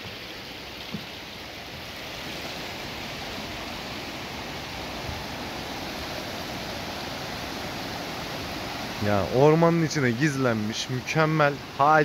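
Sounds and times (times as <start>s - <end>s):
water rushing in small cascade: 0.0s - 12.0s.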